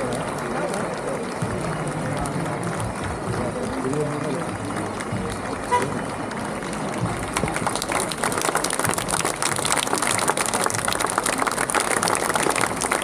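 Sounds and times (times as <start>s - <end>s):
crowd clapping: 0.0s - 13.0s.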